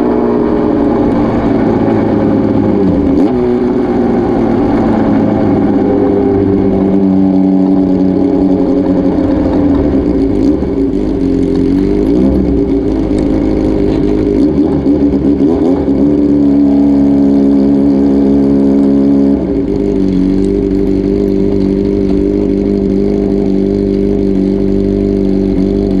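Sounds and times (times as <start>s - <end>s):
motorcycle engine running loud: 0.0s - 26.0s.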